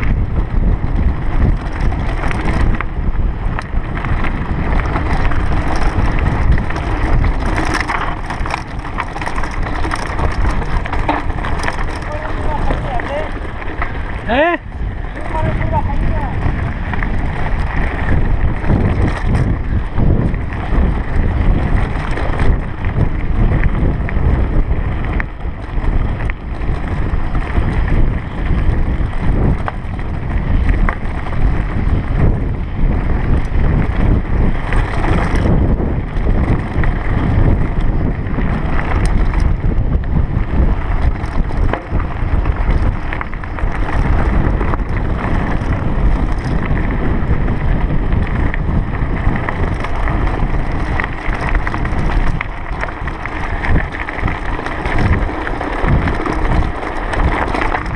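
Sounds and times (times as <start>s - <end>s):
bike rattling over stones: 0.0s - 57.9s
wind buffeting microphone: 0.0s - 57.9s.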